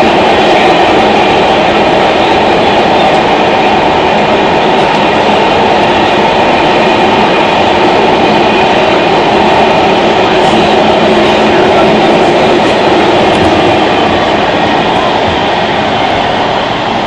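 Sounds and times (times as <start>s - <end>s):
subway wheels rumbling: 0.0s - 17.0s.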